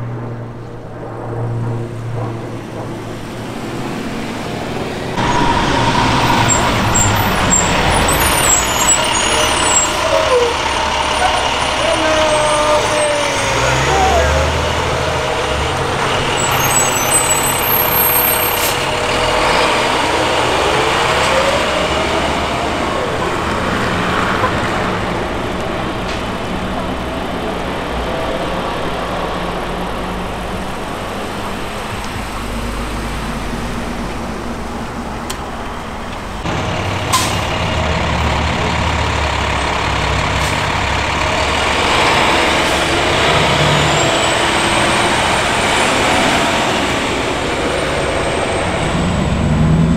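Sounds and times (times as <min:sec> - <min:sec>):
diesel fire trucks driving past: 0:00.0 - 0:49.9.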